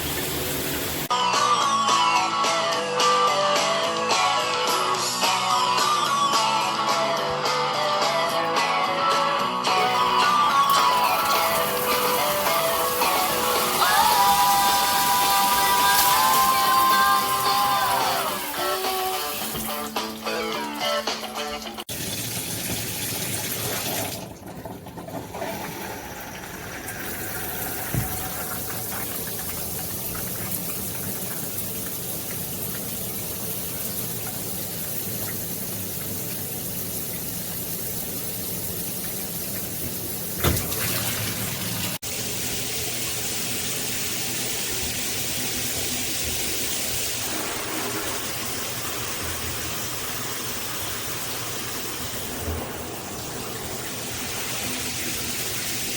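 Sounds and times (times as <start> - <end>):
shower spraying water: 0.0 - 1.1, 9.7 - 24.3, 25.3 - 55.9.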